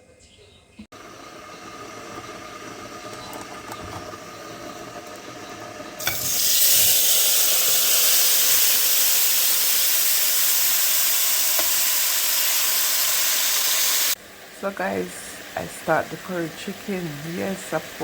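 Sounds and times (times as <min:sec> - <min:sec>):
chicken sizzling in hot oil: 0:01.0 - 0:18.0.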